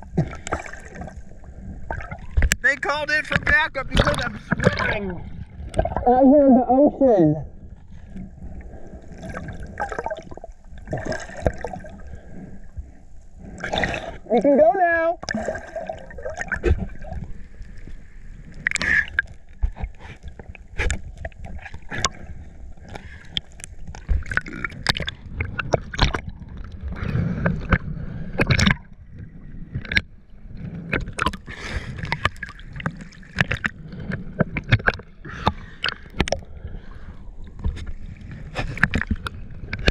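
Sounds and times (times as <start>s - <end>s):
water splashing from swimming: 0.0s - 6.2s, 8.1s - 14.4s, 15.2s - 29.0s, 30.8s - 36.6s.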